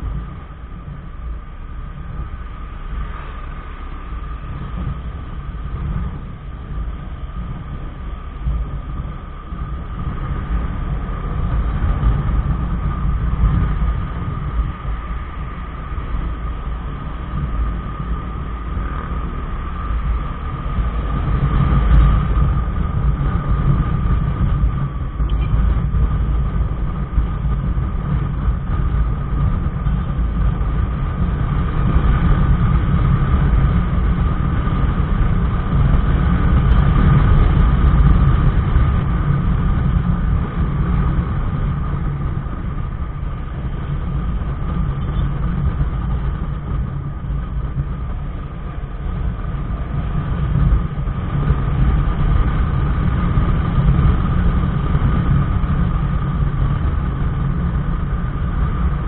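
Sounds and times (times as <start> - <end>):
motorcycle engine drone: 0.0 - 59.0
steady whine: 0.0 - 59.0
wind buffeting and road noise: 0.0 - 59.0.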